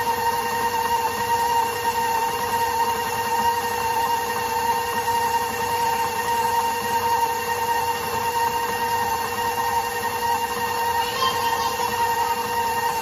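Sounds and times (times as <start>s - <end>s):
stand mixer churning dough: 0.0s - 13.0s.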